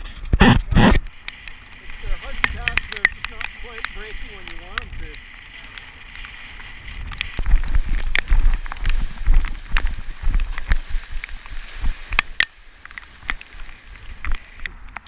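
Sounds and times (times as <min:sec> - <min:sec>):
wind buffeting microphone: 0:00.0 - 0:12.4
water splashing against kayak: 0:00.0 - 0:15.0.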